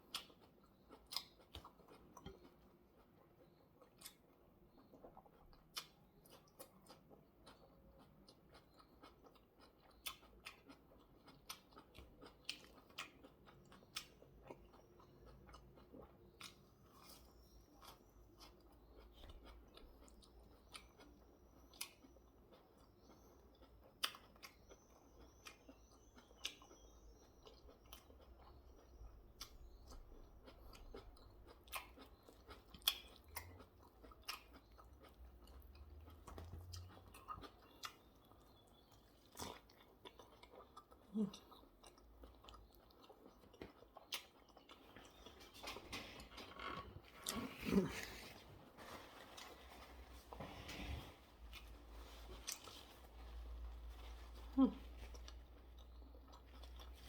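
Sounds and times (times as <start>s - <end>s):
chewing food: 0.0s - 57.0s.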